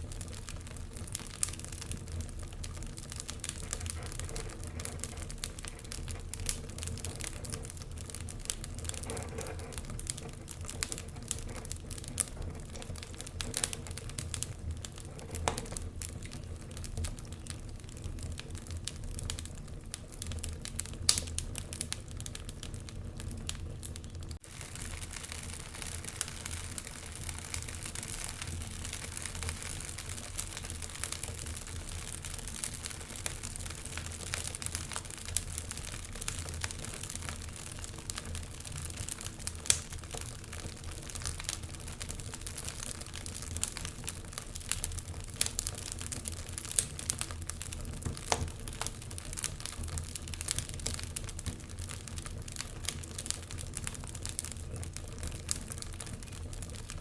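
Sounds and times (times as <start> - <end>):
fire burning in fireplace: 0.0 - 57.0.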